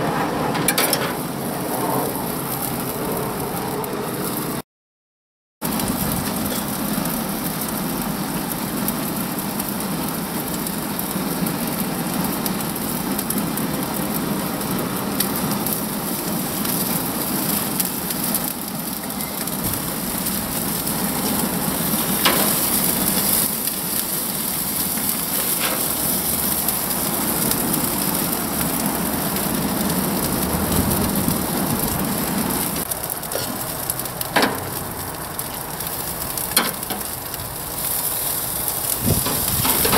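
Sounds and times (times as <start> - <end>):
food sizzling on a gas grill: 0.0 - 4.6, 5.6 - 39.9.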